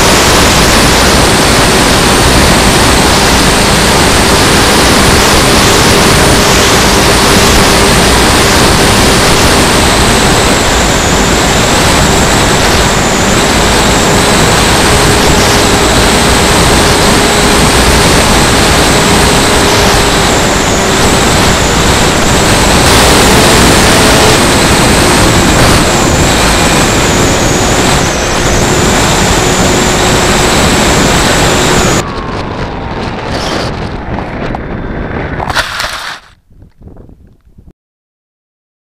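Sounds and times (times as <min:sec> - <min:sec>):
electric motor and propeller whine: 0:00.0 - 0:36.4
loud wind rush: 0:00.0 - 0:37.7.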